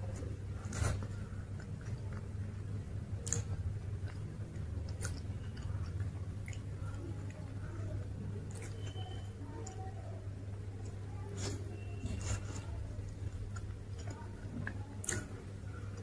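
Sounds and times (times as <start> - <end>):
wet chewing mouth sounds: 0.0 - 9.9, 10.8 - 16.0
low steady hum: 0.0 - 16.0.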